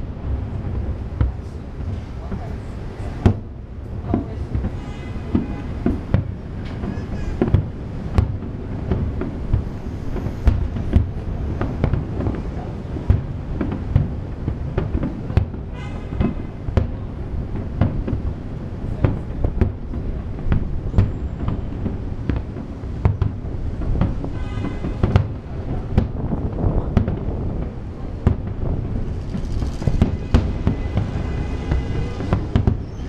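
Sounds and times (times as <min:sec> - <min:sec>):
fireworks booming: 0:00.0 - 0:33.0
sharp firework reports: 0:00.0 - 0:33.0.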